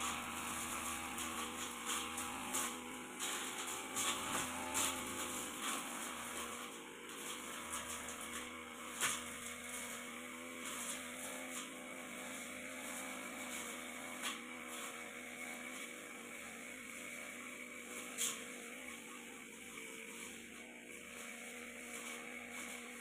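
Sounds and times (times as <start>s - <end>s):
brush cutter engine running: 0.0s - 23.0s.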